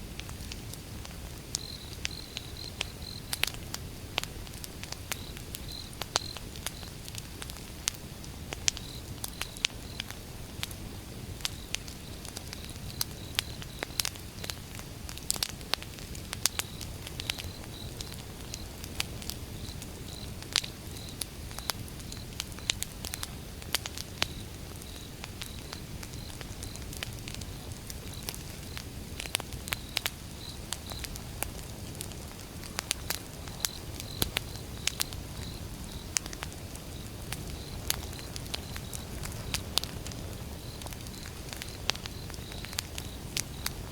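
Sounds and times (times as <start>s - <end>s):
fire flames rumbling: 0.0s - 43.9s
wood crackling and popping: 0.0s - 43.9s.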